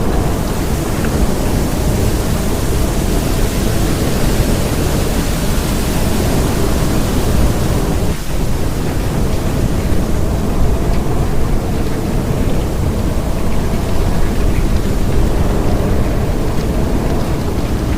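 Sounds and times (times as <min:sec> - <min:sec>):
deep rumble: 0:00.0 - 0:17.9
storm rushing: 0:00.0 - 0:17.9.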